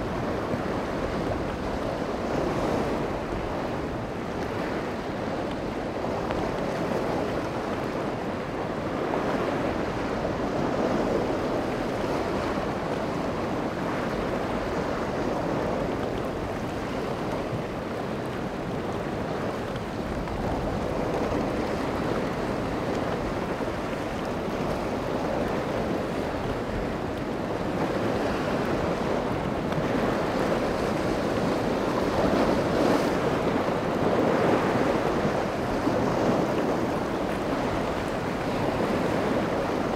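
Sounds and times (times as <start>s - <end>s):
surf: 0.0s - 39.9s
wind blowing on microphone: 0.0s - 39.9s.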